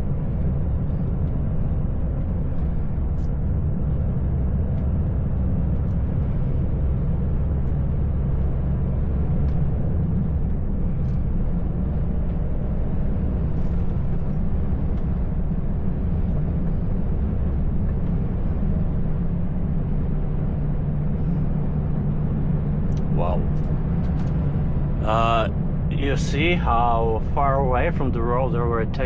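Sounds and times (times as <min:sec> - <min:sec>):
truck engine and tyre drone: 0:00.0 - 0:29.0.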